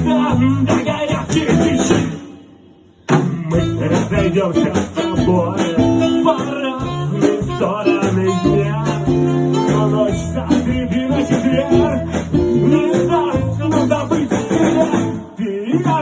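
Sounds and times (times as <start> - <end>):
electric guitar: 0.0 - 16.0
live rock band playing: 0.0 - 16.0.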